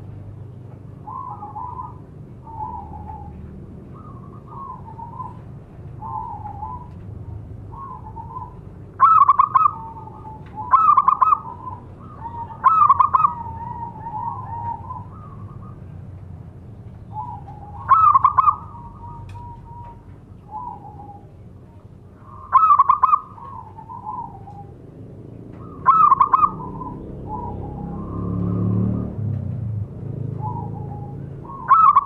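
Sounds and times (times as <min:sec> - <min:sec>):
dove cooing song: 0:00.0 - 0:32.0.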